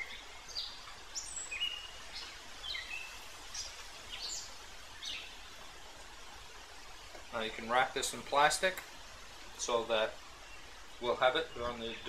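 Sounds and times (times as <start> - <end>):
songbirds chirping: 0.0 - 12.0
steady background hiss: 0.0 - 12.0.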